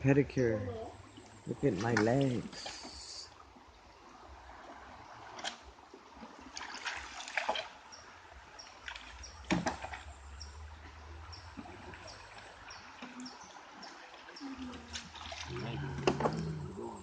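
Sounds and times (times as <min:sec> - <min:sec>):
river water splashing: 0:00.0 - 0:17.0.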